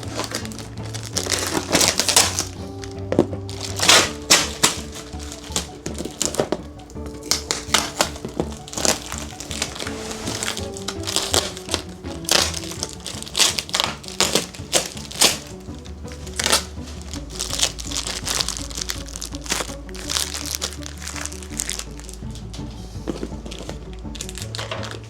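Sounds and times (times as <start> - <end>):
plastic packaging crinkling: 0.0 - 22.5, 23.1 - 25.0
background music: 0.0 - 25.0.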